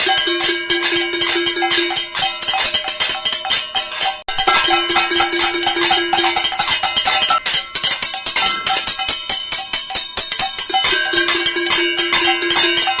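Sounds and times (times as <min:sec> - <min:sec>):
cooking pots banging: 0:00.0 - 0:13.0
pot ringing note: 0:00.0 - 0:13.0.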